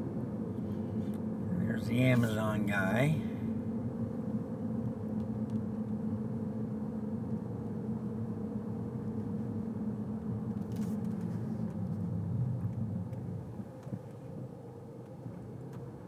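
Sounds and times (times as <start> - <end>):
car cabin engine and road drone: 0.0 - 16.0.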